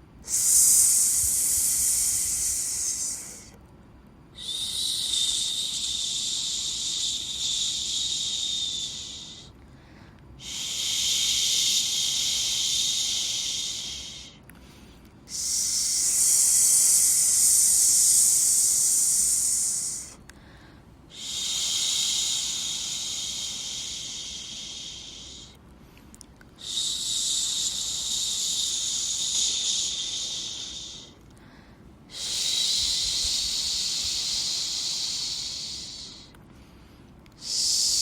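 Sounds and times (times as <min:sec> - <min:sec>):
high-pitched shushing white noise: 0:00.0 - 0:03.6, 0:04.2 - 0:09.6, 0:10.4 - 0:14.4, 0:15.2 - 0:25.6, 0:26.5 - 0:31.2, 0:32.0 - 0:36.4, 0:37.3 - 0:38.0.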